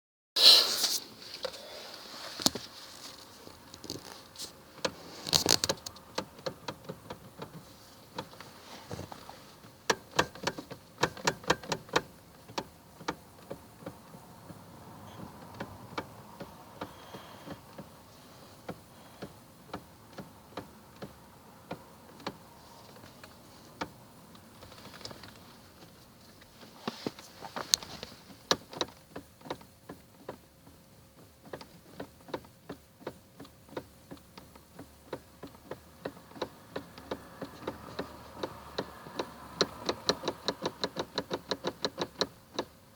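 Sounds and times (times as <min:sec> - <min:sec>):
sharp irregular steering knocks: 0:03.8 - 0:42.9.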